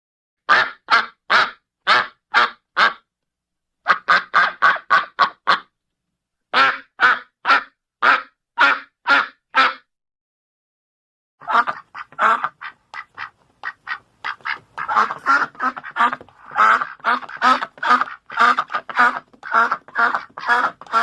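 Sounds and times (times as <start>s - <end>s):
duck quacking: 0.5s - 3.1s, 3.8s - 5.7s, 6.5s - 9.9s, 11.4s - 21.0s.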